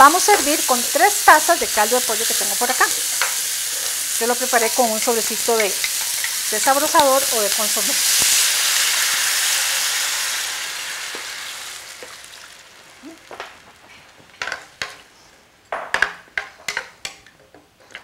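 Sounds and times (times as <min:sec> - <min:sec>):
broth sizzling in hot skillet: 0:00.0 - 0:15.2.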